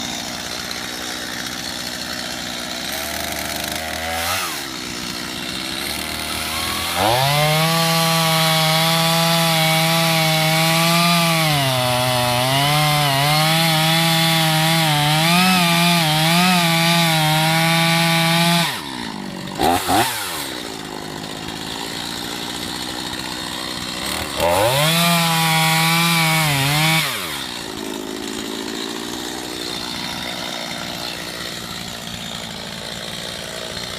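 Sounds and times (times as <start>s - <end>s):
chainsaw revving and cutting wood: 0.0s - 33.9s.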